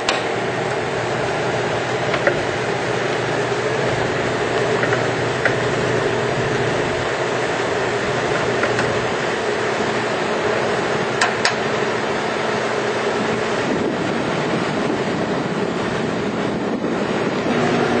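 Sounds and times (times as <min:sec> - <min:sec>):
mechanical running noise: 0:00.0 - 0:18.0.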